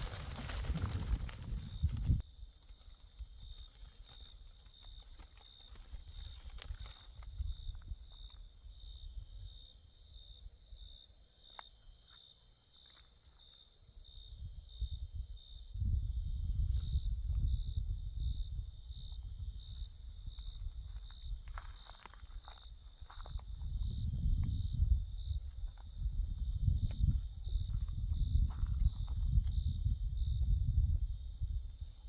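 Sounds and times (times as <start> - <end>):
insect chirping: 0.0 - 32.0
insect trill: 0.0 - 32.0.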